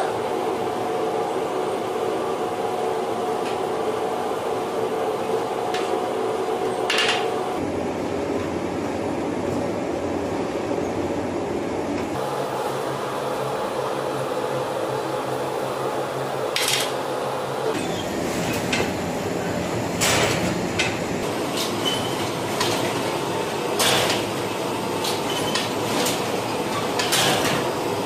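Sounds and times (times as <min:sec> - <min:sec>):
machinery motor hum: 0:00.0 - 0:28.0.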